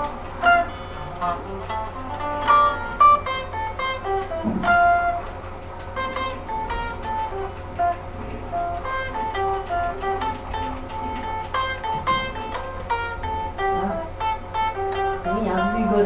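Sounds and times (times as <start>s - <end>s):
solo guitar picking melody: 0.0s - 16.0s.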